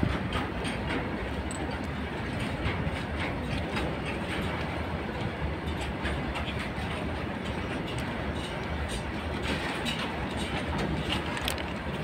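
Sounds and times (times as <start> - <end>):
train wheels rumbling on rails: 0.0 - 12.0
wheels clacking over rail joints: 0.0 - 12.0.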